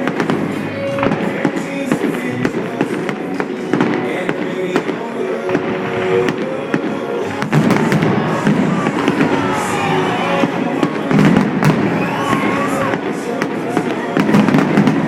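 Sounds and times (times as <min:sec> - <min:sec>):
fireworks bangs and crackles: 0:00.0 - 0:15.0
loud music: 0:00.0 - 0:15.0.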